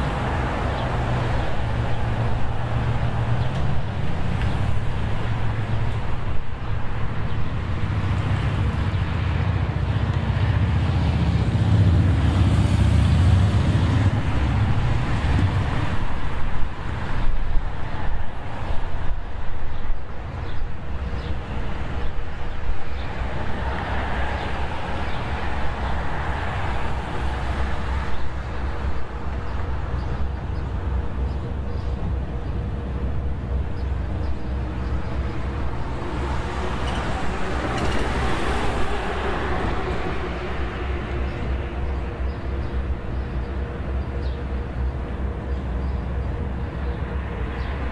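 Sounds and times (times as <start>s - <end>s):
vehicles passing: 0.0s - 47.9s.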